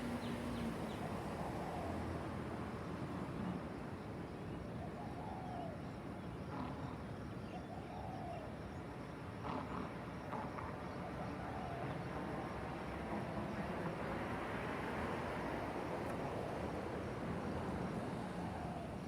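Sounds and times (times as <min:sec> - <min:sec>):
distant city traffic hum: 0:00.0 - 0:19.0.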